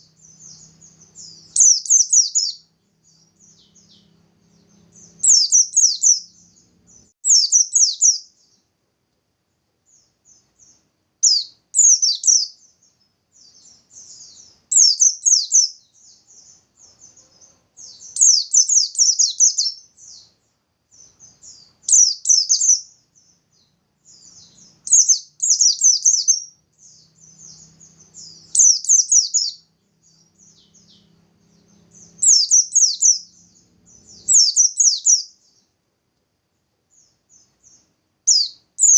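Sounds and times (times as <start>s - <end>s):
bird singing high fast bursts: 0.0s - 8.6s, 10.6s - 12.8s, 13.4s - 16.7s, 17.8s - 20.3s, 21.0s - 35.6s, 37.7s - 38.9s
soft bird twittering: 0.0s - 8.7s, 9.8s - 35.8s, 36.9s - 38.9s.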